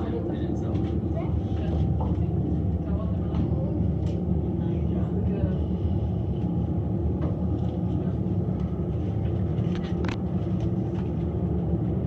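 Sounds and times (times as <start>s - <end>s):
aerial tram cabin rumble: 0.0s - 12.0s.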